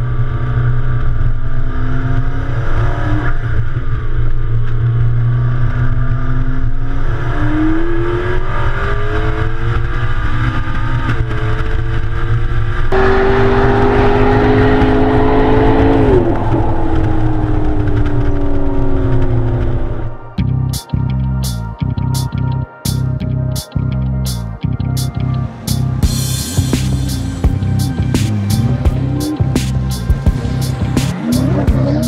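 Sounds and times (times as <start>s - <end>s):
sports car engine at speed: 0.0s - 20.4s, 24.2s - 32.0s
road and wind noise: 0.0s - 32.0s.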